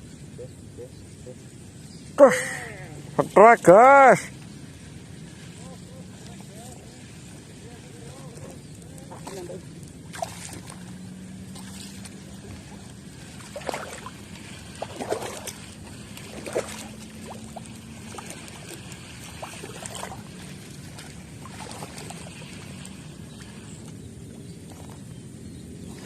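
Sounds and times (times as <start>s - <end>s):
faint steady hum: 0.0s - 26.0s
water splashing and trickling: 1.5s - 26.0s.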